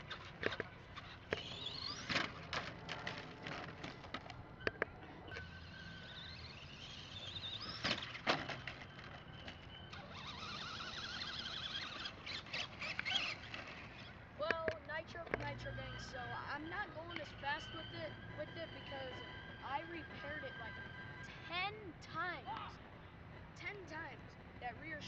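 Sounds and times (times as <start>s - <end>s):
small engine revving whine: 0.0s - 14.4s, 15.3s - 21.5s.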